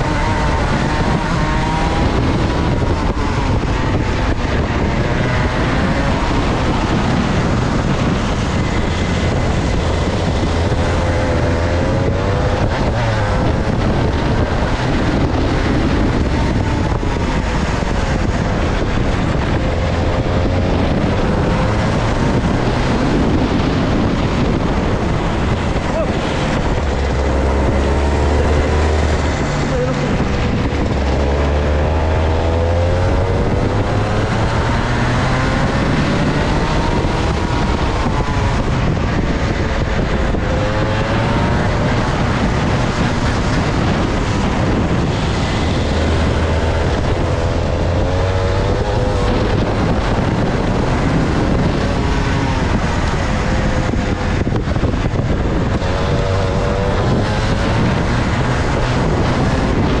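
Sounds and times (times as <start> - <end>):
kart engine revving: 0.0 - 60.0.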